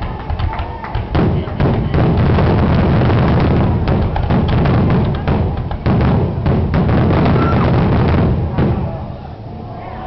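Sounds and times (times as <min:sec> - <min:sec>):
fireworks bursting: 0:00.0 - 0:09.4.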